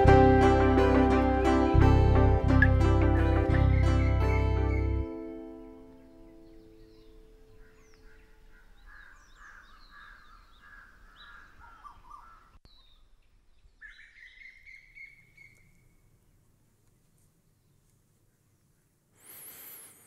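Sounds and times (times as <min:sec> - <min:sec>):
faint birds chirping: 0:02.5 - 0:20.0.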